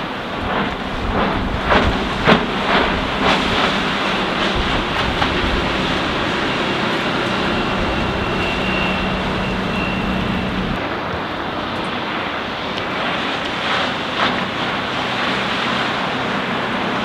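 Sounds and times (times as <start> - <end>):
boat engine drone: 0.0 - 17.0
wind noise on microphone: 0.0 - 17.0.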